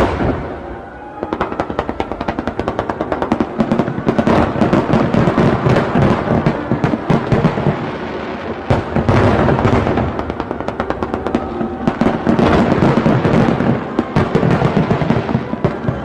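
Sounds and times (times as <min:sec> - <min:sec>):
fireworks bangs and crackles: 0:00.0 - 0:16.0
fireworks low booms: 0:00.0 - 0:16.0.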